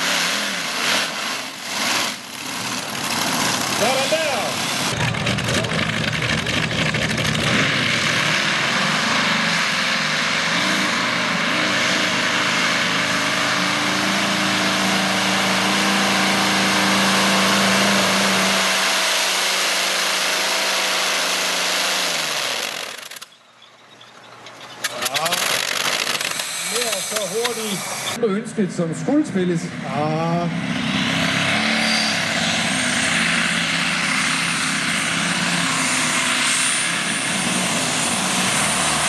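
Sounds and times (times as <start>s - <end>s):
tractor engine roaring: 0.0s - 39.0s.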